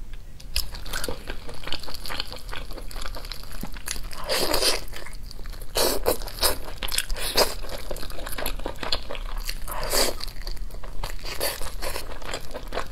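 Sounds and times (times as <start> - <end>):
chewing with wet mouth clicks: 0.4 - 12.9.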